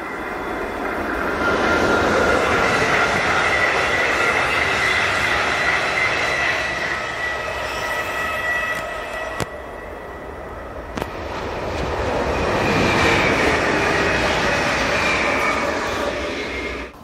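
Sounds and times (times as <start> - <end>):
high-pitched whine: 0.0 - 17.0
train wheels rushing on rail: 0.0 - 17.0.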